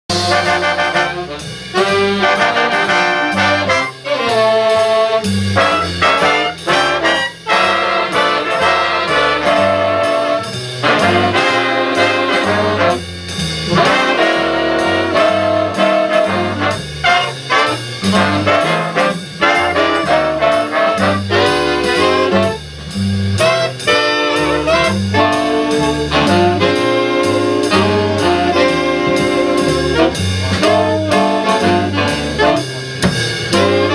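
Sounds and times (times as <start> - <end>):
drum kit beat: 0.0 - 33.9
upright bass: 0.0 - 33.9
brass and saxophone chords: 0.1 - 33.9.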